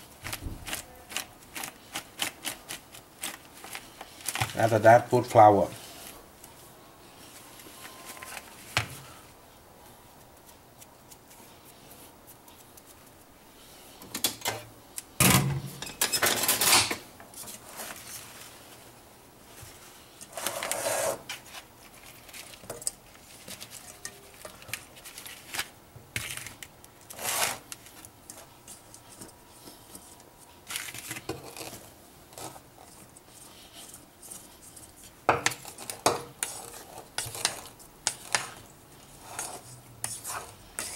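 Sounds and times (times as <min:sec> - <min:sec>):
rustling and scraping in flour: 0:00.0 - 0:14.1, 0:17.3 - 0:40.9.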